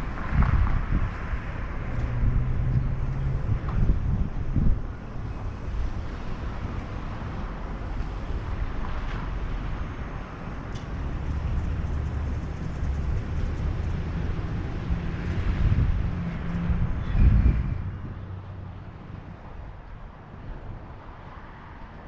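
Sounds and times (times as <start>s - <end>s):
wind on microphone: 0.0s - 9.7s, 11.0s - 19.9s
passing vehicle engine rumble: 0.0s - 22.0s.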